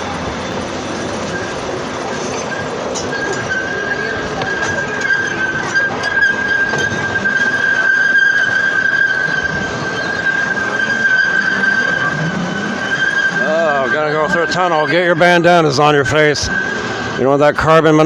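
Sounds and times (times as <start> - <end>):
train rolling along track: 0.0 - 18.0
wheels squealing: 0.0 - 18.0.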